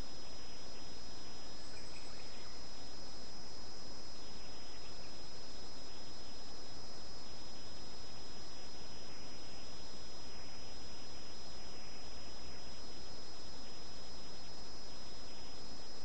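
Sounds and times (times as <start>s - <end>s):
faint bird chirps: 0.0s - 3.2s, 4.1s - 16.0s
outdoor background hiss: 0.0s - 16.0s.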